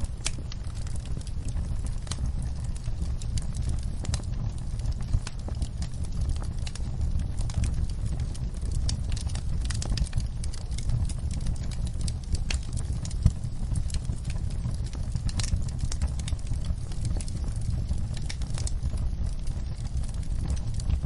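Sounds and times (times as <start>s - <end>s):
fire crackling and snapping: 0.0s - 21.0s
fire pop: 0.0s - 21.0s
flames rumbling: 0.0s - 21.0s.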